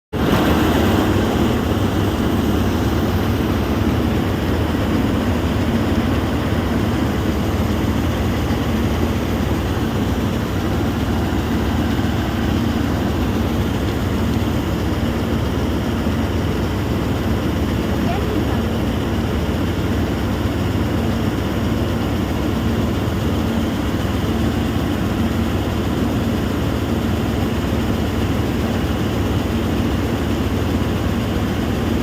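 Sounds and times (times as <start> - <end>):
heavy machinery engine drone: 0.2 - 32.0.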